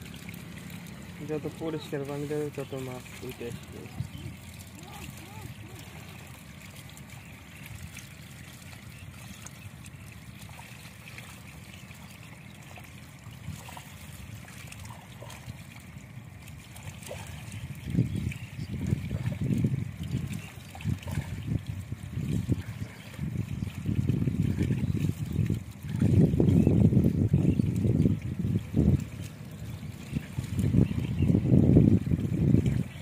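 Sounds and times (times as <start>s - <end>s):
shallow water trickling: 0.0s - 33.0s.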